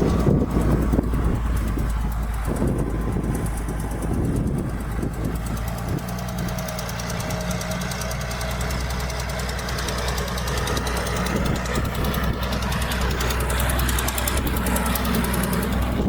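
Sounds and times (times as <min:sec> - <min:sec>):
heavy diesel engine running: 0:00.0 - 0:16.0
rapid knocking rattle: 0:00.0 - 0:16.0.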